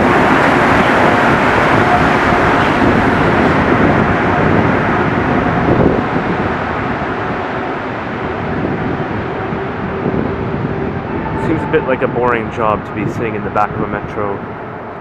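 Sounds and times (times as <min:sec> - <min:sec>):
air buffeting microphone: 0:00.0 - 0:15.0
metro train running: 0:00.0 - 0:15.0.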